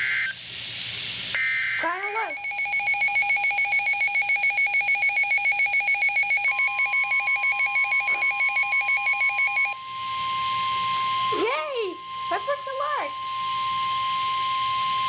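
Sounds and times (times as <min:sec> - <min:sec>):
steady single-pitch alarm tone: 0:01.4 - 0:15.0
electronic alarm beeping rapidly: 0:01.8 - 0:14.0.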